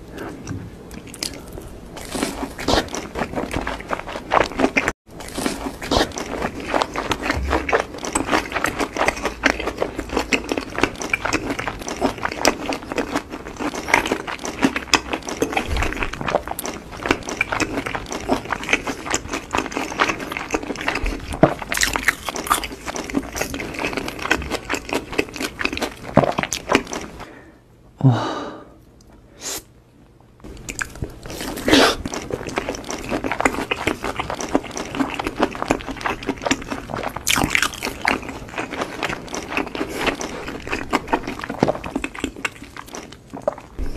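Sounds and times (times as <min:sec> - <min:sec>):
crunchy chewing: 0:00.4 - 0:27.3, 0:30.5 - 0:43.9.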